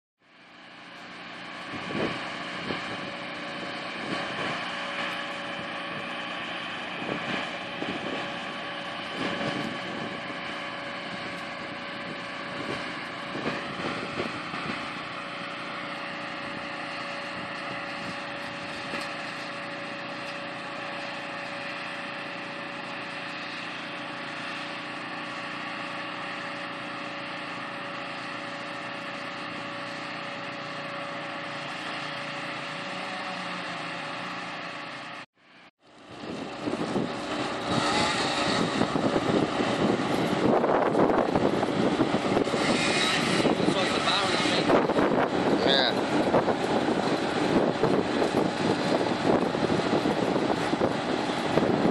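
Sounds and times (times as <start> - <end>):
heavy machinery engines droning: 0.2 - 51.9.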